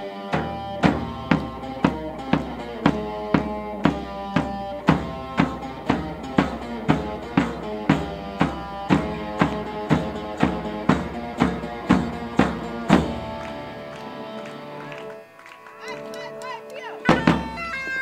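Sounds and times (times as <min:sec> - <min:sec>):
drum beaten with stick: 0:00.0 - 0:13.9, 0:16.4 - 0:18.0
bagpipe melody over drone: 0:00.0 - 0:18.0.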